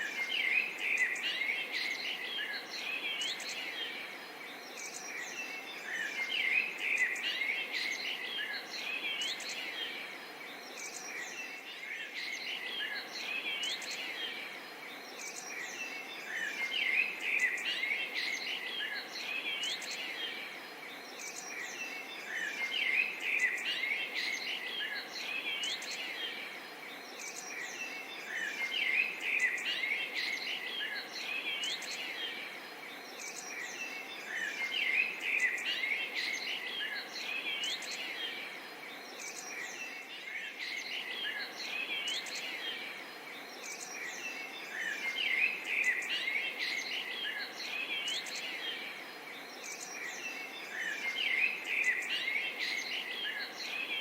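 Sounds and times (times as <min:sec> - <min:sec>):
chorus of birds chirping: 0:00.0 - 0:54.0
faint steady hiss: 0:00.0 - 0:54.0.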